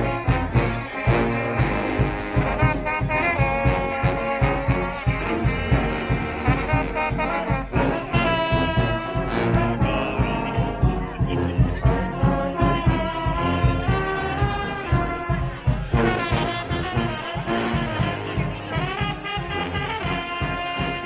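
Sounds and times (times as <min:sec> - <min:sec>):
brass horns playing: 0:00.0 - 0:21.0
steady drum beat: 0:00.0 - 0:21.0.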